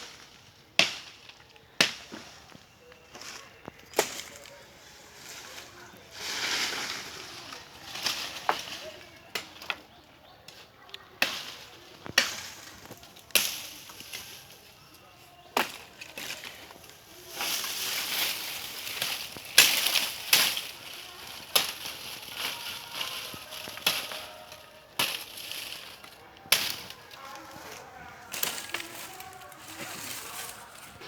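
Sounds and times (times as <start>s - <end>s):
rustling: 2.0s - 9.9s, 11.3s - 31.0s.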